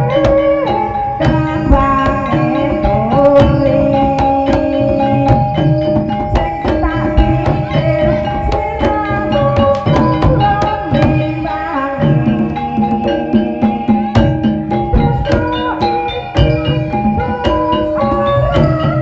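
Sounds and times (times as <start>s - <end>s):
hand drums: 0.0s - 19.0s
held melodic line: 0.0s - 19.0s
tuned percussion: 0.0s - 19.0s.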